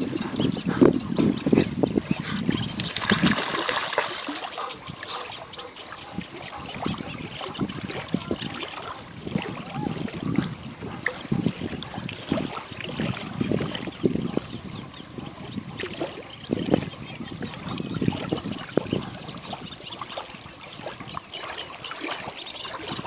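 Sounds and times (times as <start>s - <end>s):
water sloshing and splashing: 1.2s - 23.0s.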